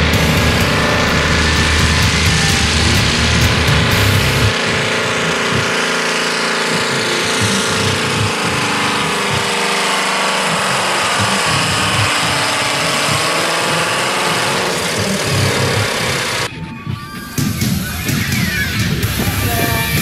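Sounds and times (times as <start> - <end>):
tractor diesel engine under load: 0.0 - 16.5.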